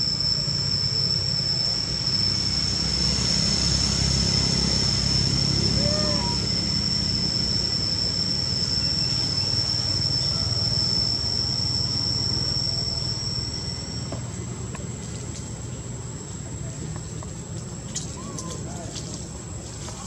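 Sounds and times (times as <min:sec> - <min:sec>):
insect high-pitched whine: 0:00.0 - 0:20.0.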